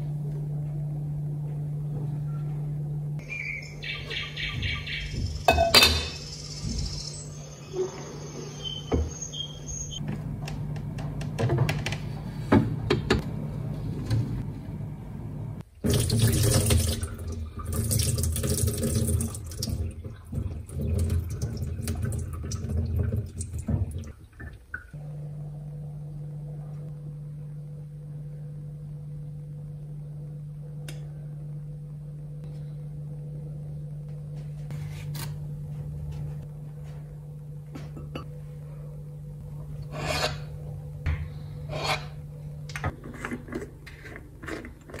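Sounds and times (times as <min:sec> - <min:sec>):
steady low hum: 0:00.0 - 0:16.0, 0:16.6 - 0:45.0.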